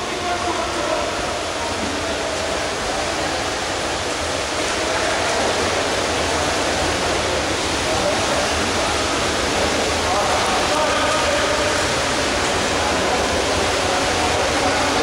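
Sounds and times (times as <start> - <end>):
water splashing in indoor pool: 0.0 - 15.0.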